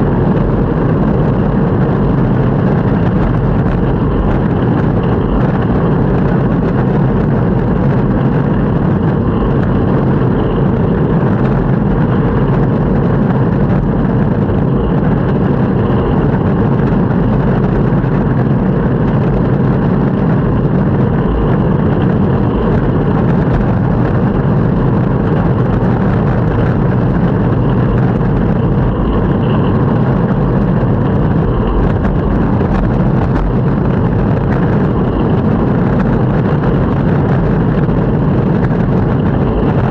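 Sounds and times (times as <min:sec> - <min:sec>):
longboard wheels rolling on pavement: 0:00.0 - 0:39.9.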